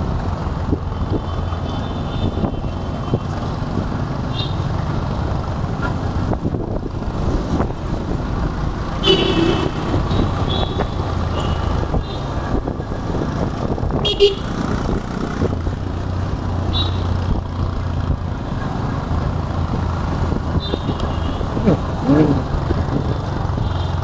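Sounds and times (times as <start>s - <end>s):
engine and road noise: 0.0s - 24.0s.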